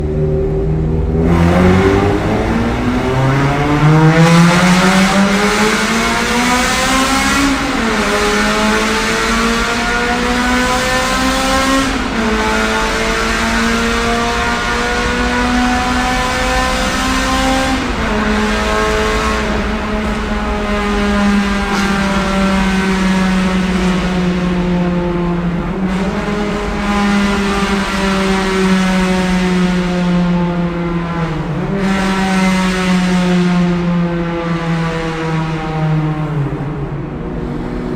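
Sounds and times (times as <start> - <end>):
car engine accelerating hard: 0.0 - 37.9.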